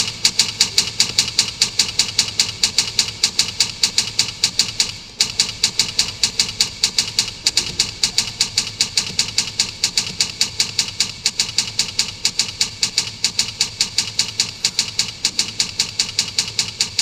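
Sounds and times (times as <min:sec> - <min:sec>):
rapid even clicking: 0:00.0 - 0:17.0.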